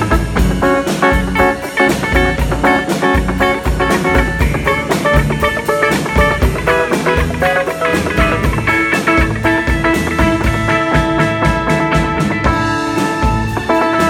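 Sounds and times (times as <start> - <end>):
bass: 0.0 - 14.0
drum kit beat: 0.0 - 14.0
electric guitar quick notes: 0.0 - 14.0.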